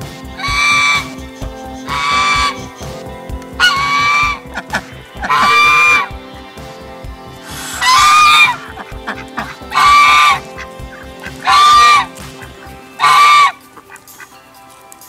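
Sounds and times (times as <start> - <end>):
goose honking: 0.4 - 3.0, 3.6 - 6.1, 7.4 - 14.4.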